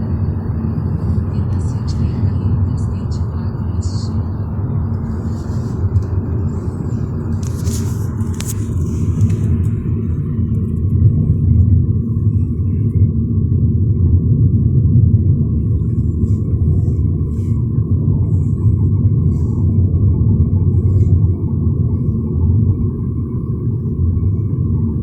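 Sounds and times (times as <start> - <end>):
car road noise rumble: 0.0 - 25.0
faint steady hum: 0.0 - 25.0.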